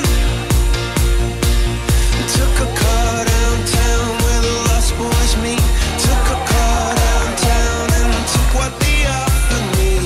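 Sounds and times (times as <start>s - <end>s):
pop music with driving beat: 0.0s - 10.0s.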